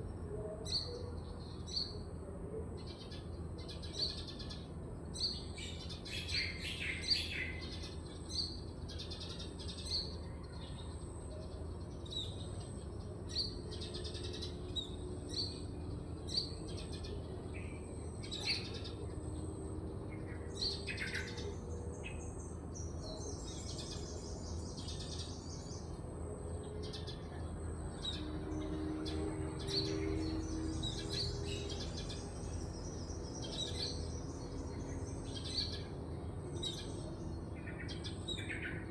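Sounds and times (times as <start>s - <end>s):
small birds chirping: 2.8s - 38.9s.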